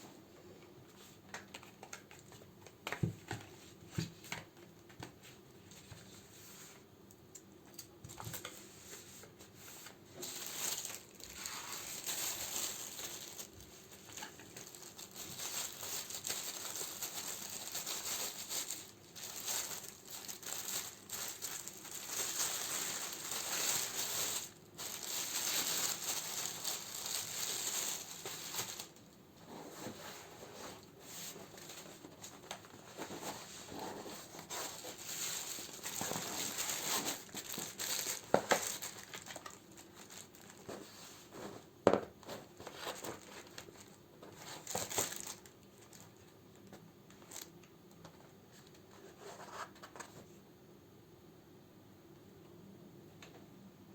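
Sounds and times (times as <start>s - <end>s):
plastic and paper crinkling: 1.0s - 6.8s, 8.0s - 50.3s.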